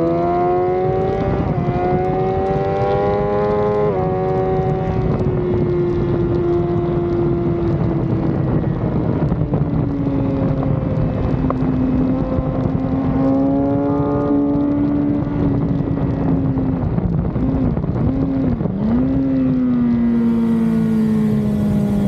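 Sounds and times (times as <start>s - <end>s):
motorbike engine at high revs: 0.0s - 22.0s
wind rushing over microphone: 0.0s - 22.0s.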